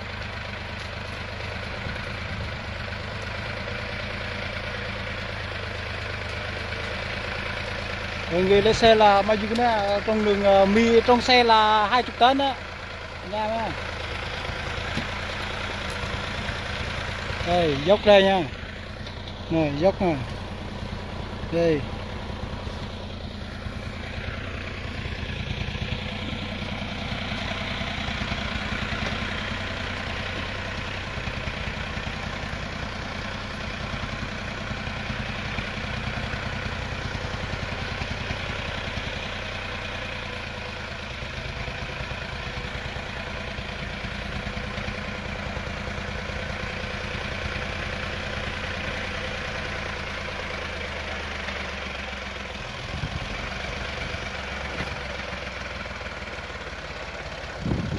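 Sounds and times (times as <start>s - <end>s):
diesel engine chugging: 0.0s - 57.9s.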